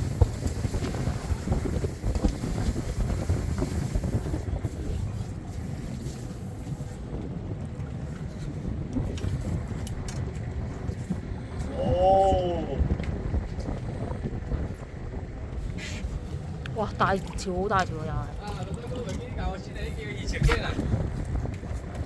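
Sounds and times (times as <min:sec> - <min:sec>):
boat engine rumble: 0:00.0 - 0:22.0
wind buffeting the microphone: 0:00.0 - 0:22.0.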